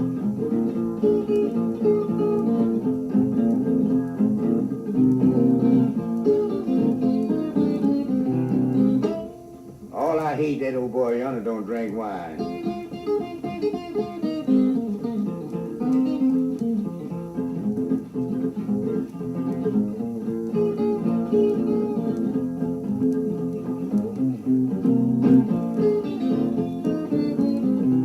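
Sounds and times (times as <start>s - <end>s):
blues guitar playing: 0.0s - 28.0s.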